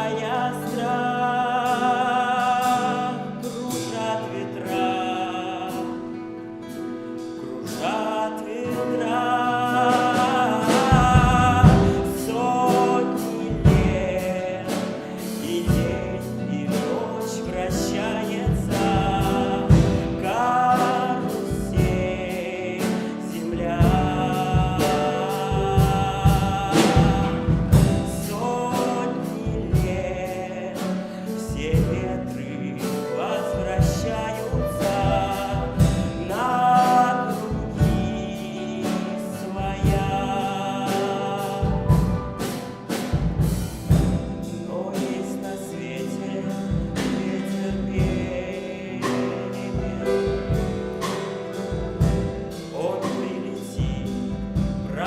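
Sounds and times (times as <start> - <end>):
guitar: 0.0 - 55.0
person singing: 0.0 - 55.0
piano: 0.0 - 55.0
drum kit and cymbals: 6.6 - 55.0.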